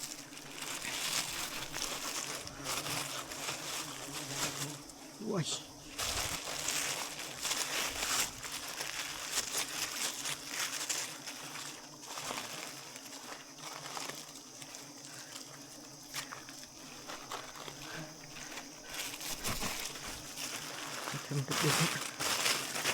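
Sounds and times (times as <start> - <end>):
rustling and crinkling handling: 0.0 - 22.9.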